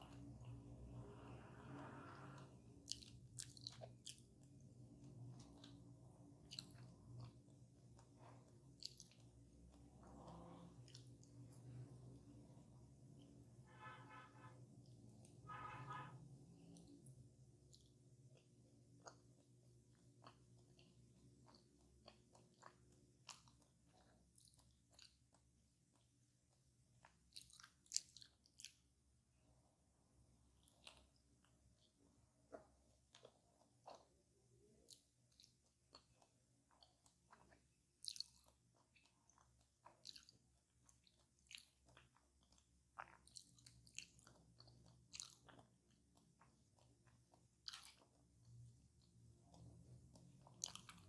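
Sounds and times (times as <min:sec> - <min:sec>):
person chewing crunchy food: 0:00.0 - 0:16.0, 0:16.6 - 0:29.5, 0:30.4 - 0:51.0.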